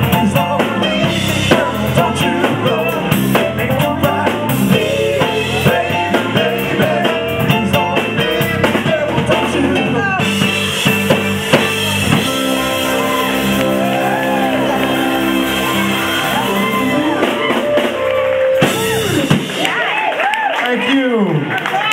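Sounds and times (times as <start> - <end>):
person singing: 0.0 - 10.5, 11.5 - 19.4
electric guitar: 0.0 - 19.6
drum kit: 0.0 - 20.1
soul band playing: 0.0 - 20.2.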